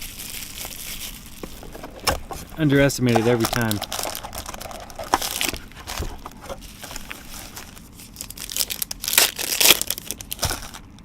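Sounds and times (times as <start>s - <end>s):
cards rustling: 0.0s - 10.9s
card pack wrappers crinkling: 0.0s - 11.0s.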